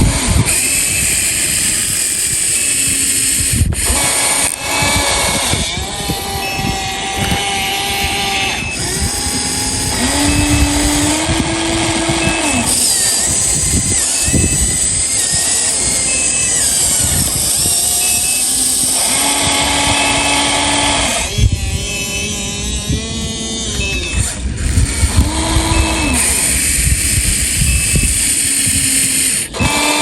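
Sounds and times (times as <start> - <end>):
small electric motors whining: 0.0 - 30.0.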